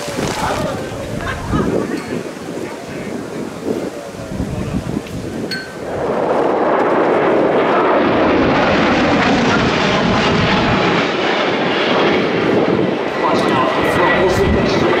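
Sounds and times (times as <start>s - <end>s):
aircraft engine overhead: 0.0s - 15.0s.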